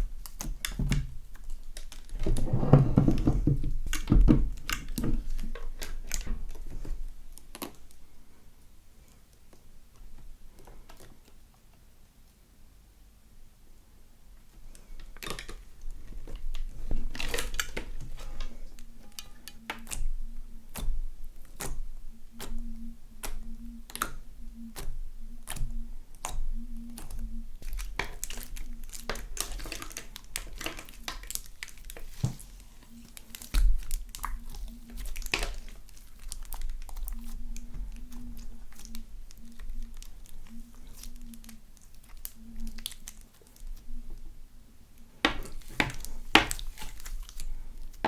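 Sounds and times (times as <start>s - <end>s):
slime crackling and squelching: 0.0s - 8.1s, 14.7s - 44.3s, 45.0s - 48.0s.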